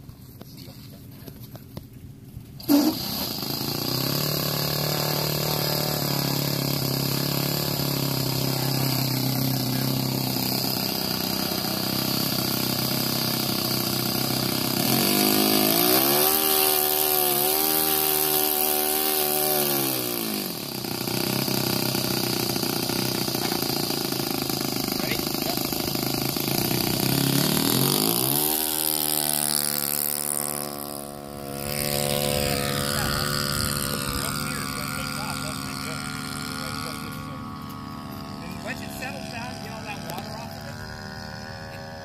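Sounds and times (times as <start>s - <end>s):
model aircraft engine running: 0.0s - 42.0s.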